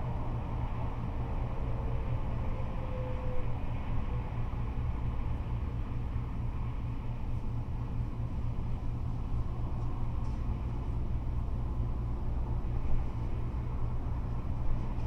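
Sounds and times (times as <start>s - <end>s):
freeway traffic rumble: 0.0s - 15.0s.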